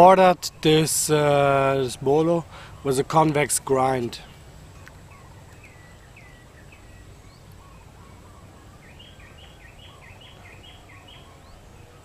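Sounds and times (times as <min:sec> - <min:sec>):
bird calling: 0:00.0 - 0:12.0
low background noise: 0:00.0 - 0:12.0.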